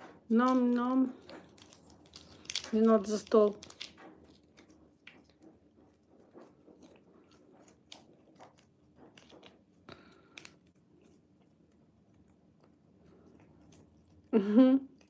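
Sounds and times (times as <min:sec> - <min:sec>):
cat licking and chewing: 0:01.1 - 0:15.0.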